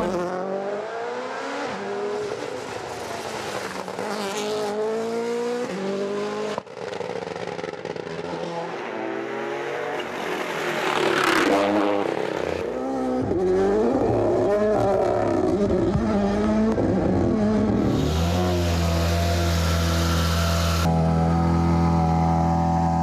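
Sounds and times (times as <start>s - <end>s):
rally car engines at full throttle: 0.0s - 23.0s.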